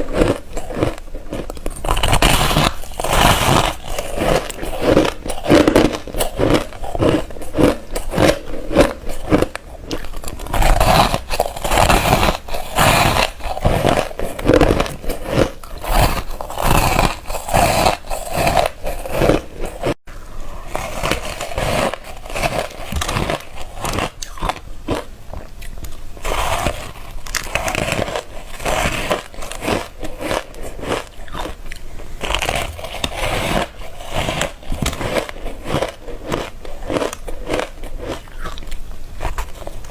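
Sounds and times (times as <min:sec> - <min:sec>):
biting and crunching ice: 0:00.0 - 0:20.0, 0:20.7 - 0:25.1, 0:26.2 - 0:39.9.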